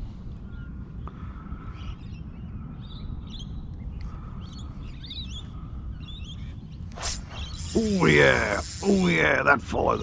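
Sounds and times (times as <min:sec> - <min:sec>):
faint bird chirps: 0:00.4 - 0:09.2.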